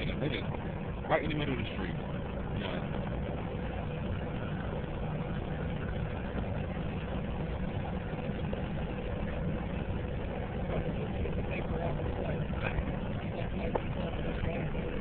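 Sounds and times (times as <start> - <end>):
faint steady hum: 0.0 - 15.0
vehicle engine rumble: 0.0 - 15.0.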